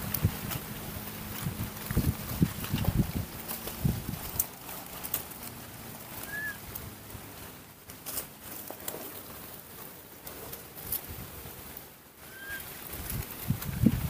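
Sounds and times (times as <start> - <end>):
dry leaves crackling and rustling: 0.0 - 14.0.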